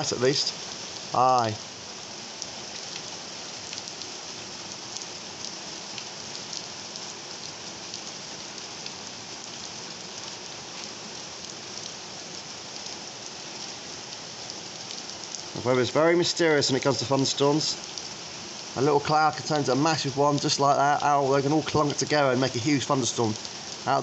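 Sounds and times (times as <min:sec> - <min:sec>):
heavy rain: 0:00.0 - 0:24.0
raindrops ticking: 0:00.0 - 0:24.0.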